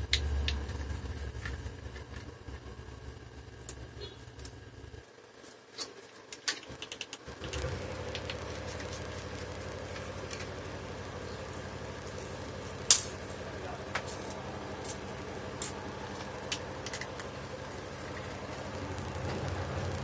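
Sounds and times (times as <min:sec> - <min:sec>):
low steady hum: 0:00.0 - 0:05.5, 0:06.1 - 0:20.0.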